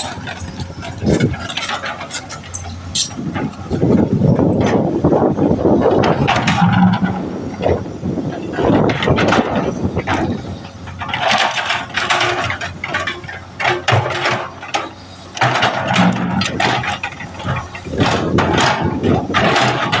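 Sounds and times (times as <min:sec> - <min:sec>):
excavator diesel engine running: 0:00.0 - 0:20.0
rattling and clanking: 0:00.0 - 0:20.0.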